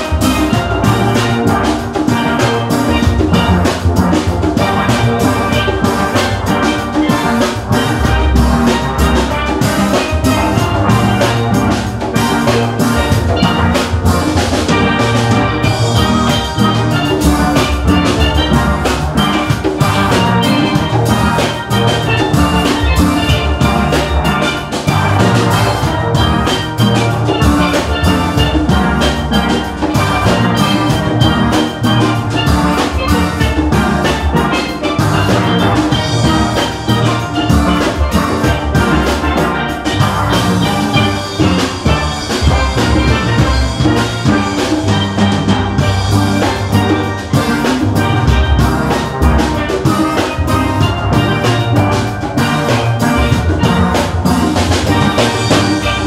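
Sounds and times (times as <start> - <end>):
drums: 0.0 - 56.0
steel band playing: 0.0 - 56.0.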